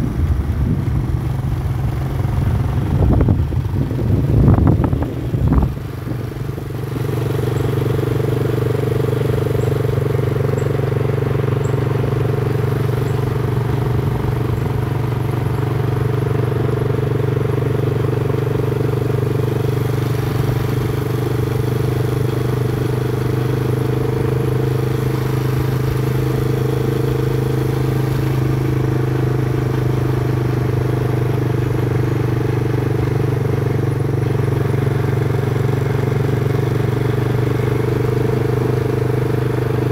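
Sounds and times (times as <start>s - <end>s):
small motorcycle engine humming: 0.0s - 39.9s.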